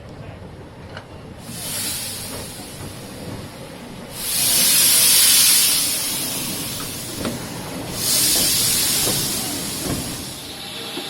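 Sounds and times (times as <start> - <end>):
steam locomotive hissing steam: 1.4 - 11.0.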